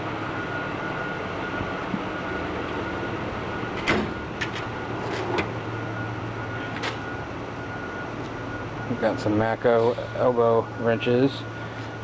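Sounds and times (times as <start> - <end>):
workshop hum: 0.0 - 12.0.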